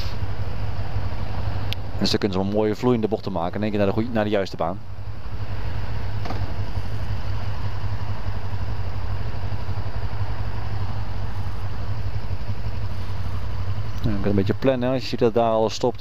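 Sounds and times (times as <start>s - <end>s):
motorcycle engine idling low: 0.0s - 16.0s
road noise: 0.0s - 16.0s.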